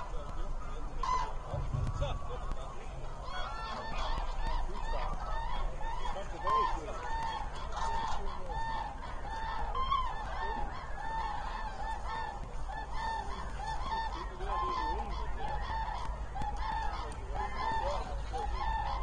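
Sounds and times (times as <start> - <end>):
flock of cranes calling: 0.0 - 19.0.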